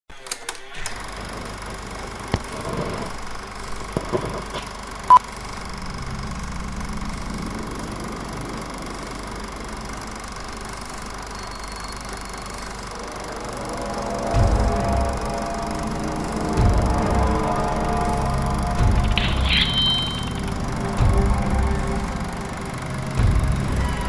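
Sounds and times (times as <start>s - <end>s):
film projector whirring: 0.3s - 24.0s.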